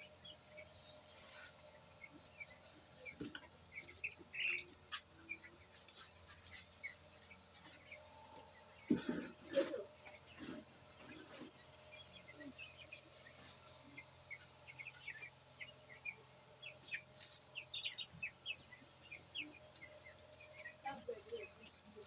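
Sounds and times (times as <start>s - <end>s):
insect drone: 0.0s - 22.0s
poultry chirping: 0.0s - 22.0s.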